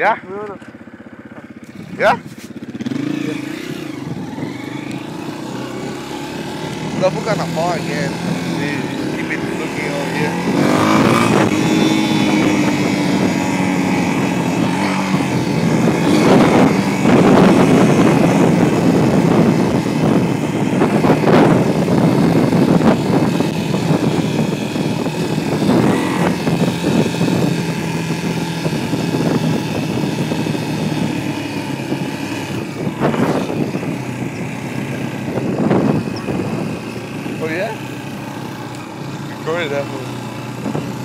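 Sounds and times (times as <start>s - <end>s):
dirt bike engine running: 0.0s - 41.0s.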